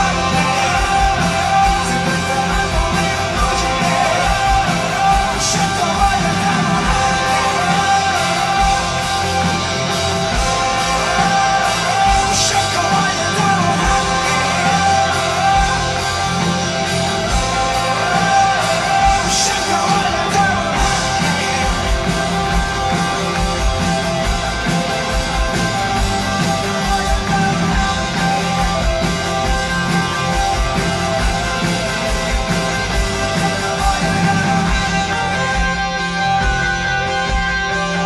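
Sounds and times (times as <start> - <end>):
electric guitars: 0.0 - 38.0
live rock band playing: 0.0 - 38.0
steady drum beat: 0.0 - 38.0.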